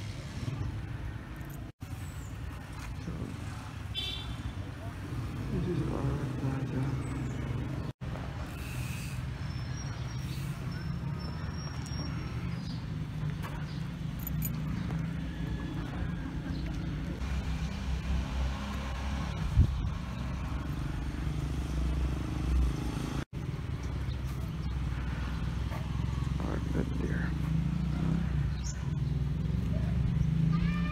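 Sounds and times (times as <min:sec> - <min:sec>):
low road rumble: 0:00.0 - 0:30.9.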